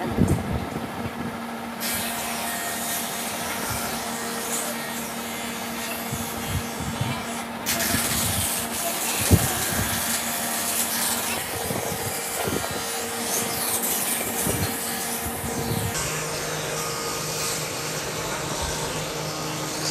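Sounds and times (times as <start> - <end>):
wood lathe humming: 1.6 - 19.9.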